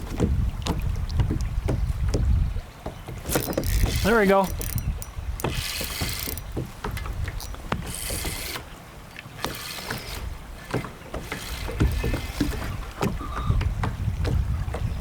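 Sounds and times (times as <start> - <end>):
knocks against kayak hull: 0.0 - 8.4, 10.7 - 15.0
water splashing around kayak: 0.0 - 15.0
wind buffeting microphone: 0.0 - 15.0.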